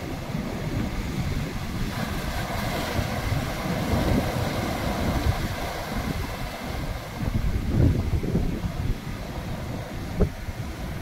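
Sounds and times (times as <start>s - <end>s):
sea surf washing over rocks: 0.0s - 11.0s
wind rumbling on microphone: 0.0s - 11.0s.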